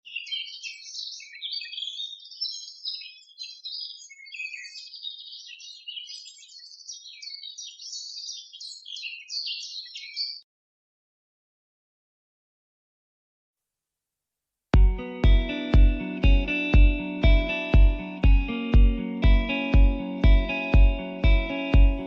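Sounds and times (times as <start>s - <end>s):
small birds chirping: 0.0s - 10.4s, 14.8s - 22.0s.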